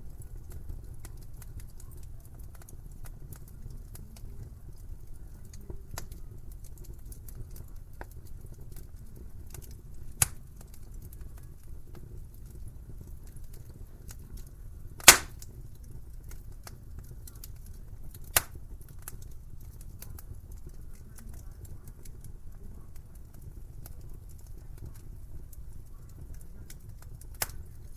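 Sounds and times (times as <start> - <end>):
wood fire crackling: 0.0 - 27.9
sharp pops of fire: 0.1 - 27.9.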